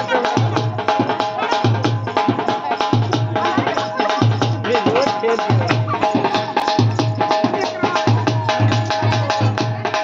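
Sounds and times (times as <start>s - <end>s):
barrel drum beating: 0.0s - 10.0s.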